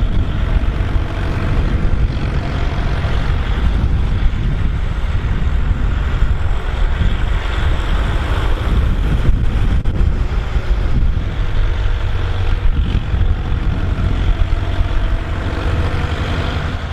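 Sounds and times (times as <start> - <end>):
tractor diesel engine under load: 0.0 - 16.9
wind buffeting microphone: 0.0 - 16.9.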